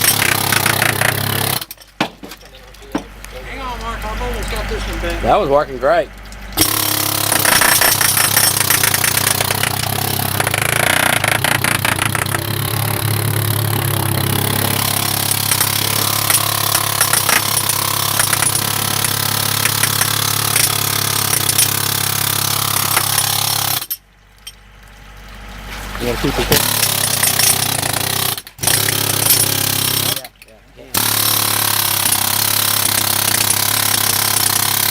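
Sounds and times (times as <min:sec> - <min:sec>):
jackhammer hammering metal: 0:00.0 - 0:03.2, 0:06.6 - 0:24.6, 0:26.3 - 0:34.9.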